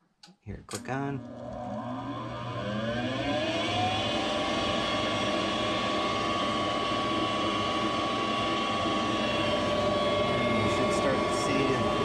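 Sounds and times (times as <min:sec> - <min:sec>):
furnace inducer motor whine: 0:00.7 - 0:12.0.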